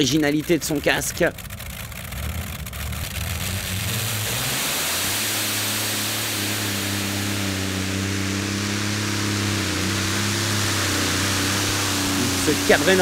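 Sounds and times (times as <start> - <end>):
pulling tractor engine roaring: 0.0 - 13.0.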